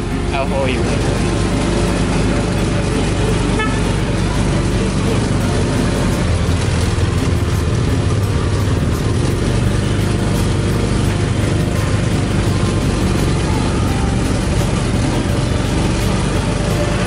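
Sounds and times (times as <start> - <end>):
road noise: 0.0 - 17.0
small engine running: 0.0 - 17.0.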